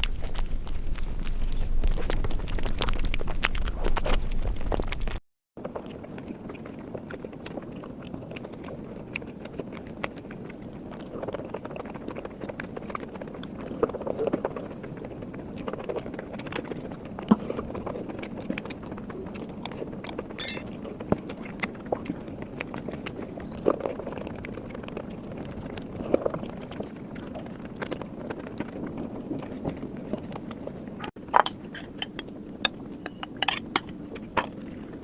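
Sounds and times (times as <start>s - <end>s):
chewing with wet mouth clicks: 0.0s - 31.2s, 31.9s - 35.0s.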